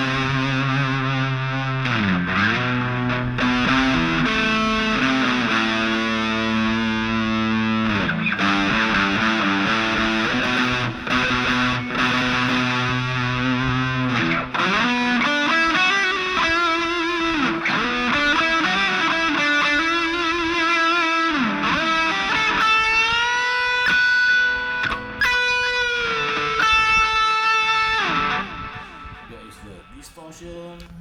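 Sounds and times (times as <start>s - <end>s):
distorted electric guitar: 0.0s - 30.2s.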